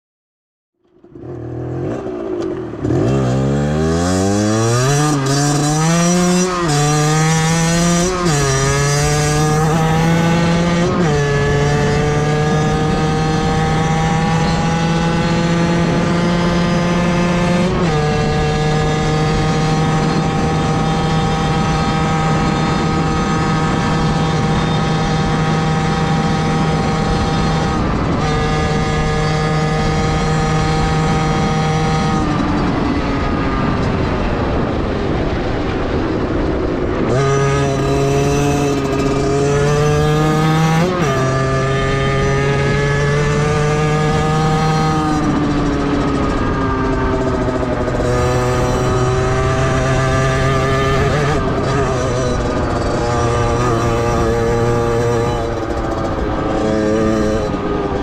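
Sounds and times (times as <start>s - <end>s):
motorcycle engine accelerating: 0.8s - 58.0s.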